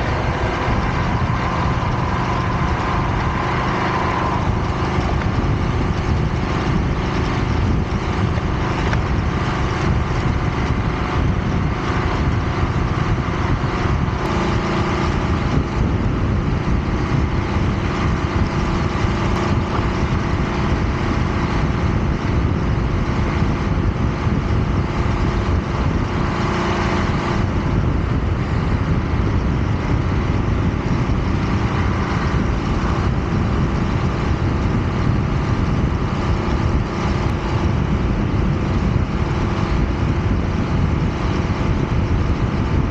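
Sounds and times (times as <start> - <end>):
motorcycle engine running: 0.0 - 42.9
road noise: 0.0 - 42.9
wind noise: 0.0 - 42.9.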